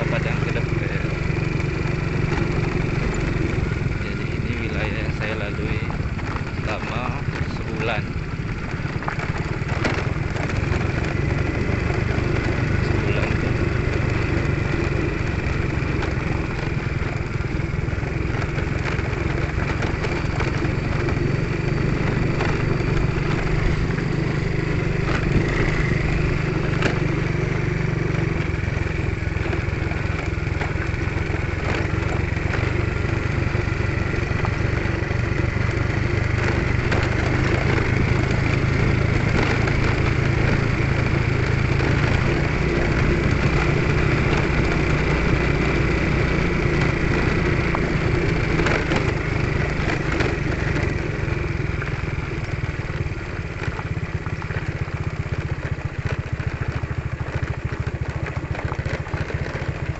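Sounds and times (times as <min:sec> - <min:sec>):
small motorcycle engine running: 0:00.0 - 0:59.9.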